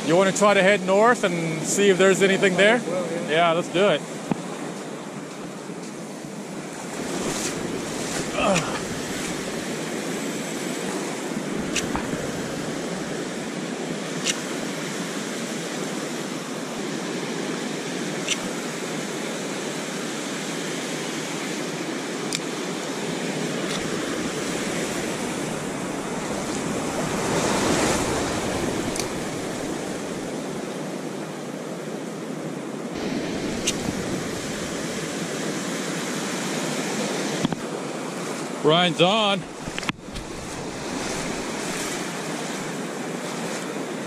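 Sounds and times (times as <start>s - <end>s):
ocean surf breaking on beach: 0.0s - 44.0s.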